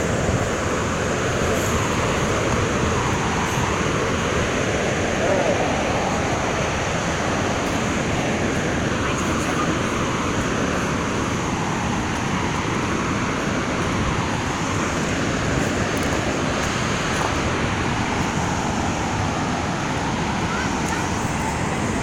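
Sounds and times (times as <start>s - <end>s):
water rushing from flood gates: 0.0s - 22.0s.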